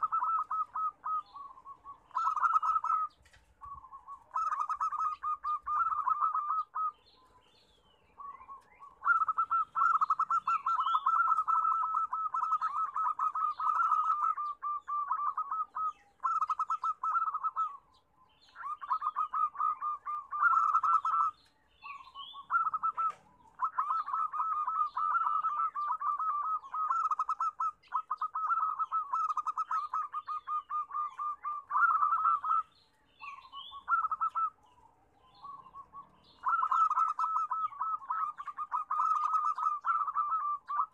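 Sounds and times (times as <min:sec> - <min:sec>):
doves cooing: 0:00.0 - 0:07.4, 0:08.1 - 0:40.9.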